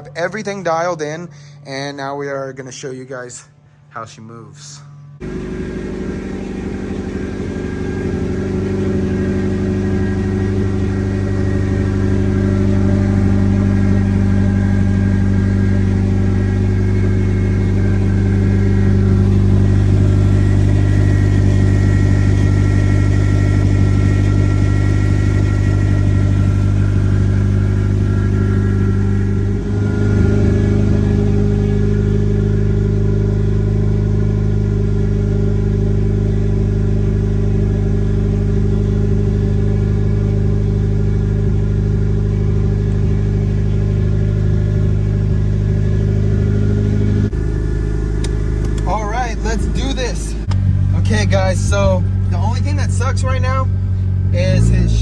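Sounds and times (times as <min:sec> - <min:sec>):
car engine droning: 0:00.0 - 0:04.0, 0:04.9 - 0:55.0.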